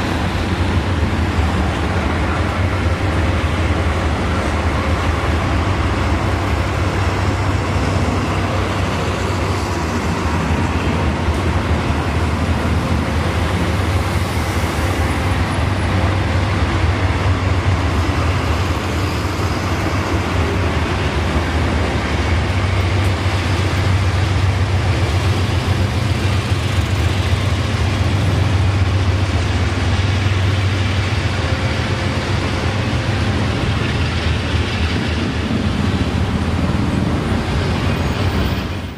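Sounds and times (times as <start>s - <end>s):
diesel locomotives droning: 0.0s - 38.9s
street traffic: 0.0s - 38.9s.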